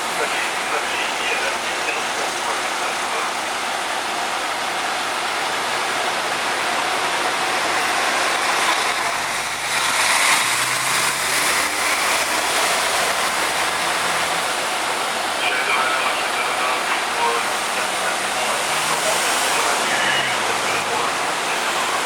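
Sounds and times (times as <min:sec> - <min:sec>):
engine humming: 0:00.0 - 0:22.0
steady rushing noise: 0:00.0 - 0:22.0.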